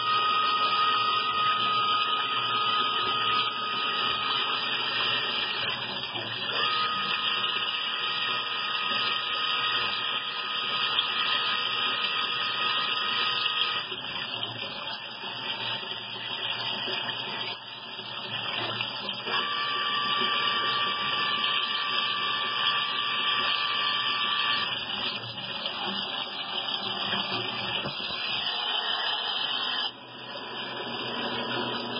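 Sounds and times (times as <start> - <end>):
lathe machine whirring: 0.0 - 17.7, 18.4 - 31.9
coolant rushing: 0.0 - 31.9
high machine whine: 0.0 - 31.9.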